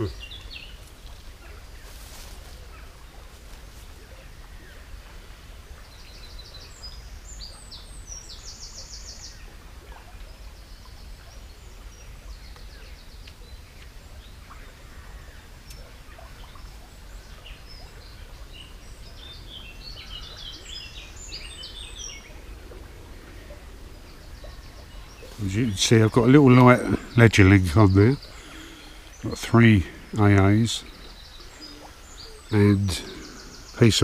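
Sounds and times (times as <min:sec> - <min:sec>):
songbirds singing and trilling: 0:00.0 - 0:34.0.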